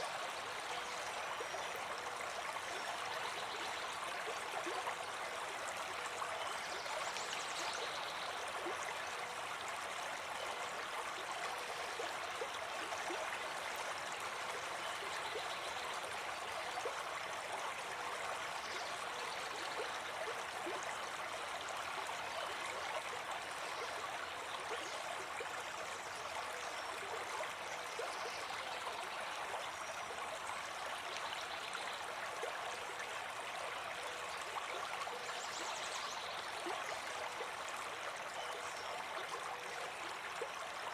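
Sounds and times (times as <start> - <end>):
stream water running over rocks: 0.0 - 40.9.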